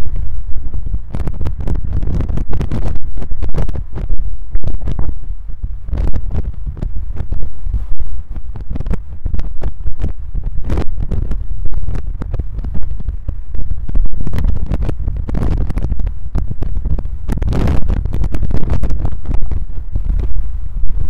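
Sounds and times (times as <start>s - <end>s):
processed low road rumble: 0.0s - 21.0s.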